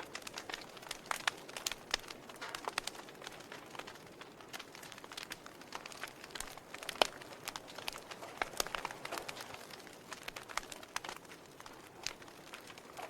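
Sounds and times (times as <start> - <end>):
loud fire snap: 0.0 - 13.0
wood fire crackling: 0.0 - 13.0.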